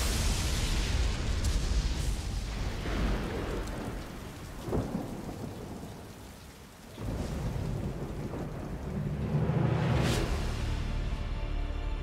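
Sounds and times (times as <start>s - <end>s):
thunder rumbling: 0.0s - 10.7s
rain pouring: 0.0s - 11.2s.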